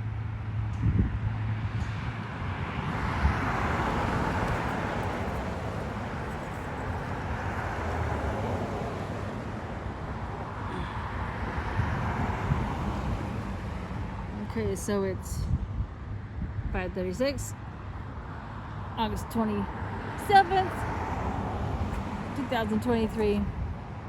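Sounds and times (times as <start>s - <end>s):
cars passing: 0.0s - 24.0s
low steady traffic hum: 0.0s - 24.0s.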